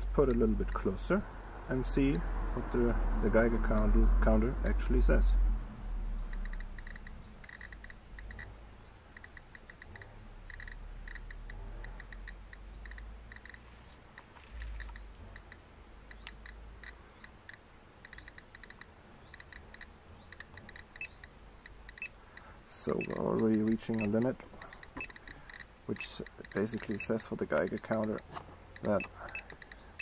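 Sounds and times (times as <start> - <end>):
geiger counter clicking: 0.2 - 0.9, 6.2 - 30.0.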